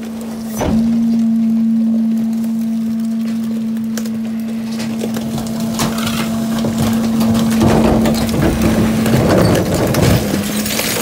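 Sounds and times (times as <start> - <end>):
hydraulic hum: 0.0 - 11.0
trash crunching and cracking: 0.0 - 11.0.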